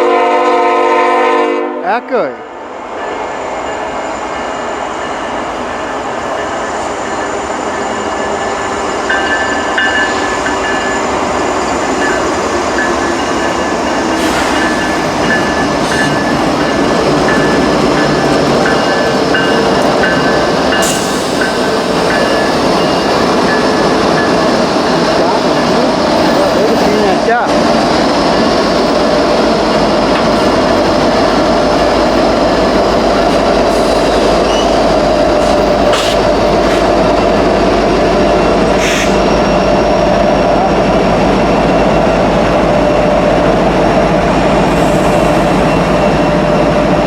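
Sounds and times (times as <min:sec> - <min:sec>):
freight train rumbling past: 0:00.0 - 0:47.0.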